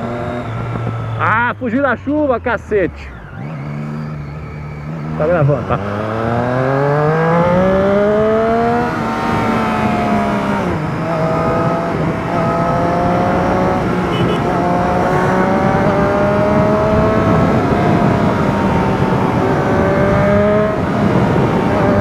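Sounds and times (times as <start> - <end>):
road noise: 0.0 - 22.0
vehicle engine accelerating: 0.0 - 22.0.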